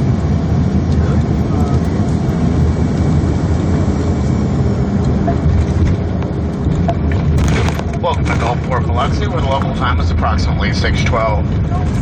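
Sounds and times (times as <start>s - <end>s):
airliner engines rumbling in cabin: 0.0s - 12.0s.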